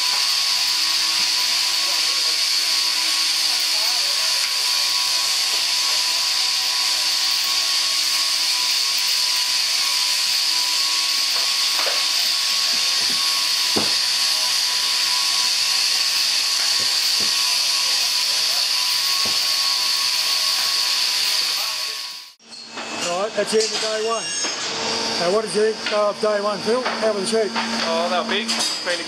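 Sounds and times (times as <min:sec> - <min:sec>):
shearing handpieces whirring: 0:00.0 - 0:29.0.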